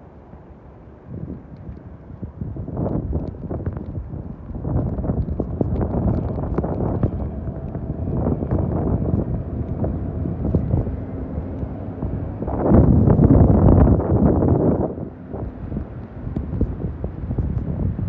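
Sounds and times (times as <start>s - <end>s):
wind buffeting microphone: 1.0s - 18.0s.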